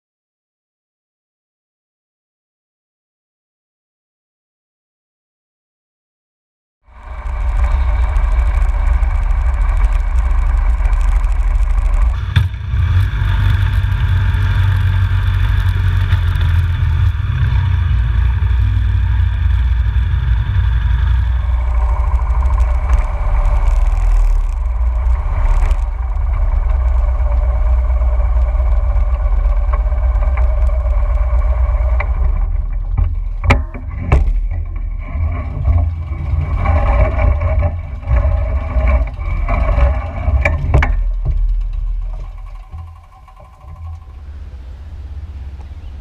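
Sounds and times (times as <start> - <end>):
motorcycle engine rumbling: 6.9 - 46.0.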